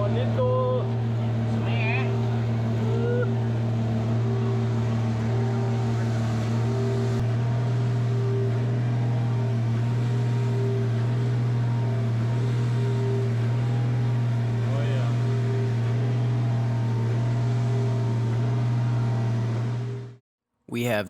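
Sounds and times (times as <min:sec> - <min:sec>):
large engine running steadily: 0:00.0 - 0:20.2.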